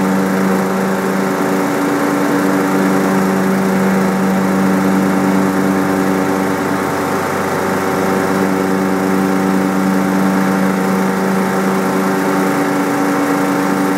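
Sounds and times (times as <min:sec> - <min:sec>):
small engine running steadily: 0:00.0 - 0:13.9.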